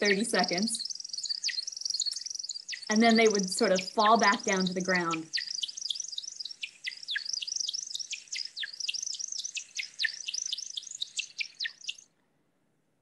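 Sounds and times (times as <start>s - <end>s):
bird chirping and twittering: 0.0s - 12.1s.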